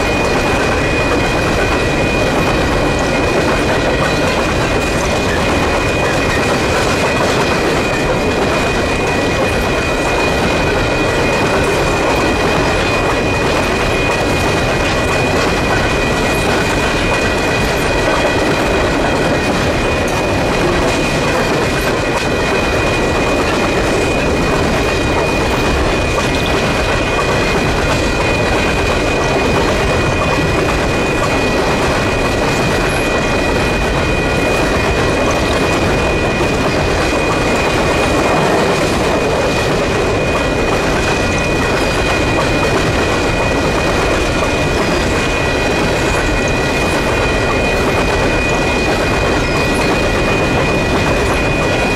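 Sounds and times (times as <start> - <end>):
steel wheels clattering on rail: 0.0 - 51.9
train cars rolling past: 0.0 - 51.9.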